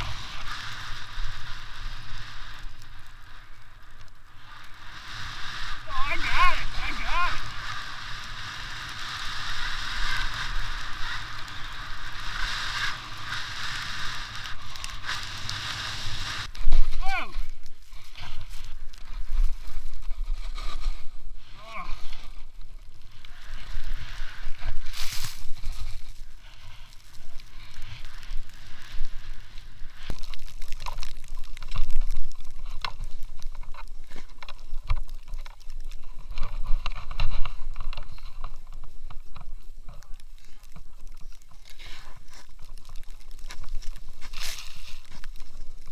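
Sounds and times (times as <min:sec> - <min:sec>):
skis hissing through powder snow: 0:00.0 - 0:45.9
wind rumbling on microphone: 0:00.0 - 0:45.9.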